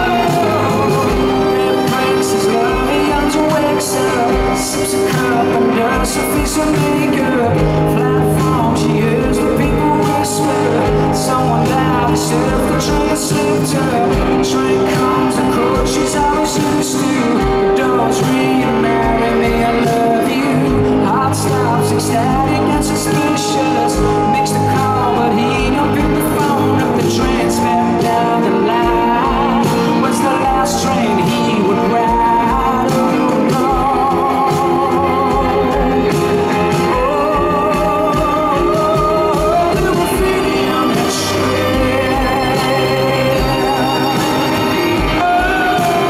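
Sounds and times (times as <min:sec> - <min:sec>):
electric guitars: 0:00.0 - 0:46.0
man singing: 0:00.0 - 0:46.0.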